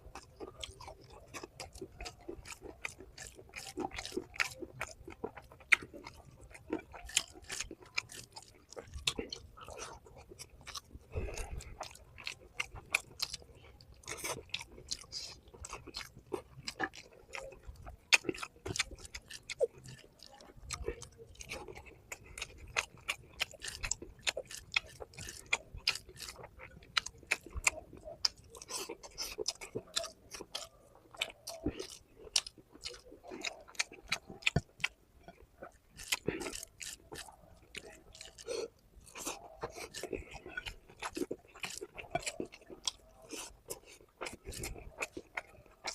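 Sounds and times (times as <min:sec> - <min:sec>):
person chewing food: 0:00.0 - 0:45.9.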